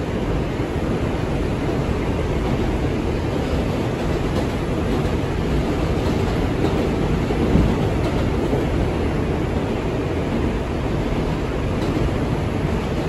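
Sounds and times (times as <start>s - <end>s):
subway car rumbling on rails: 0.0s - 13.0s.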